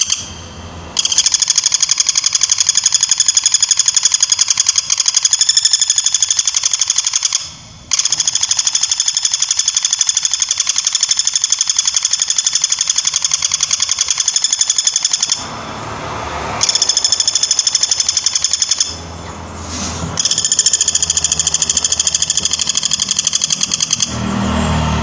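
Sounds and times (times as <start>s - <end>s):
woodpecker rattling trills: 0.0s - 0.4s, 1.0s - 15.5s, 16.6s - 19.0s, 20.2s - 24.2s.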